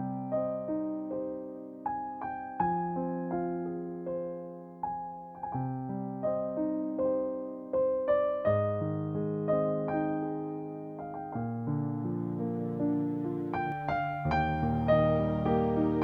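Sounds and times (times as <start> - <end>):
gentle electric piano melody: 0.0 - 16.0.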